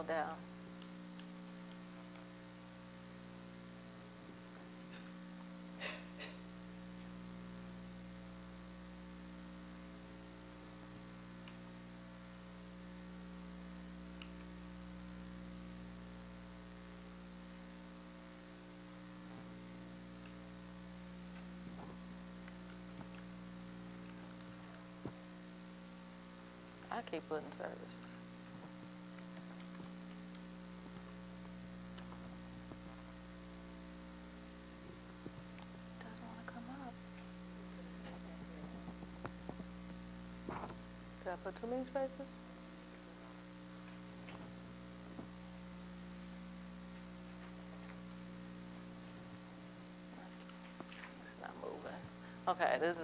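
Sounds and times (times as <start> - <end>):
electrical mains hum: 0.0 - 53.0.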